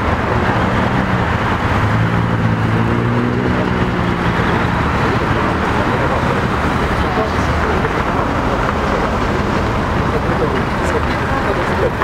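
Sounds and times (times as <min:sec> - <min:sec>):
bus engine droning: 0:00.0 - 0:12.0
road noise: 0:00.0 - 0:12.0.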